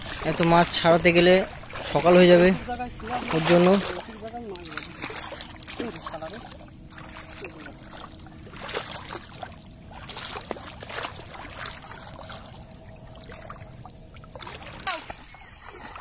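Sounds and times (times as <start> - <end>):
small water splashes: 0.0 - 16.0
water trickling and dripping: 0.0 - 16.0.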